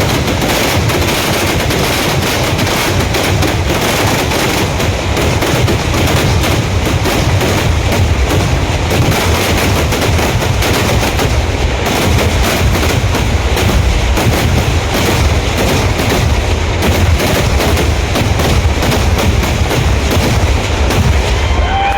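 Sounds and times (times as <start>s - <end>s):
firecrackers exploding: 0.0s - 21.9s.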